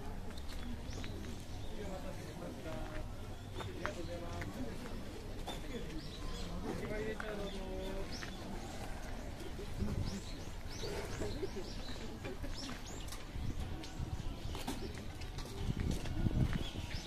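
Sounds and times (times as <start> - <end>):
park background noise: 0.0 - 17.0
small birds chirping: 0.3 - 17.0.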